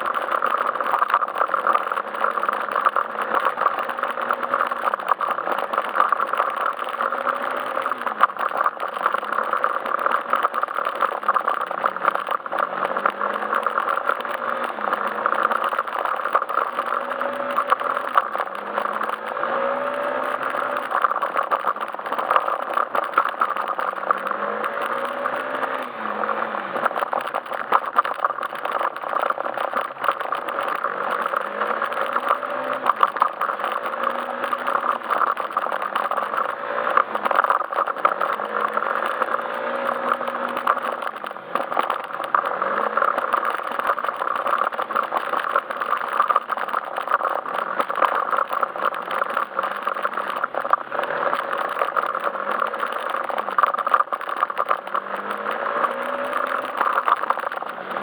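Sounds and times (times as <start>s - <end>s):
scooter engine running: 0.0s - 58.0s
small rattles and knocks: 0.0s - 58.0s.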